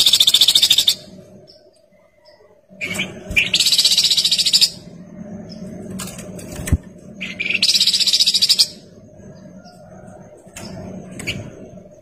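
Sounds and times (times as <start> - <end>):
bird singing trills: 0.0 - 5.8, 7.2 - 11.9.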